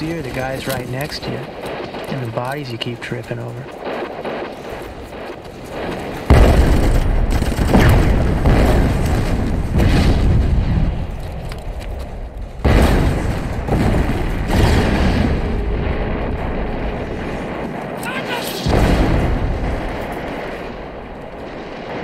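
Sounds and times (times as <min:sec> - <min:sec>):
gunfire: 0:00.0 - 0:11.4, 0:12.6 - 0:22.0
heavy explosions: 0:00.0 - 0:11.4, 0:12.6 - 0:22.0
smaller blasts: 0:00.9 - 0:11.1, 0:12.6 - 0:22.0.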